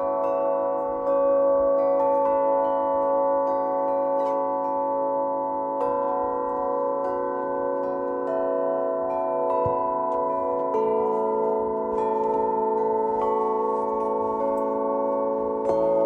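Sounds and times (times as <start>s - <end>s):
metal plate bells ringing: 0.0s - 16.0s.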